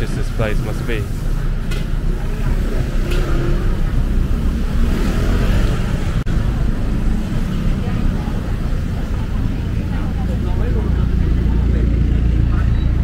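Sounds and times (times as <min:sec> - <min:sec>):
cars and motorbikes driving past: 0:00.0 - 0:13.0.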